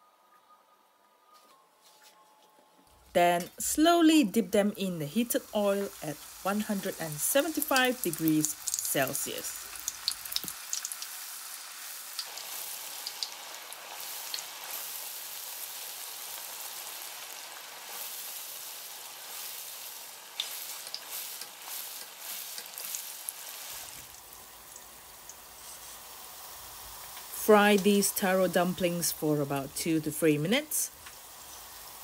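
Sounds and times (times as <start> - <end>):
oil sizzling with crackles and pops: 5.0 - 32.0.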